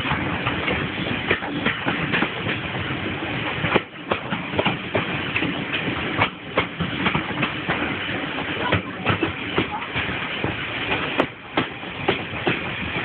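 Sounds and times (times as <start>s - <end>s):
train rumbling along track: 0.0s - 13.0s
wheels clanking and rattling: 0.0s - 13.0s.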